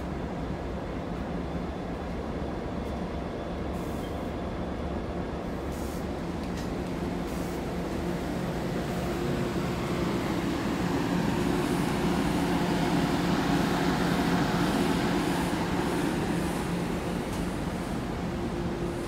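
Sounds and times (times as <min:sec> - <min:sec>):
train engine drone: 0:00.0 - 0:19.0
train rumble: 0:00.0 - 0:19.0.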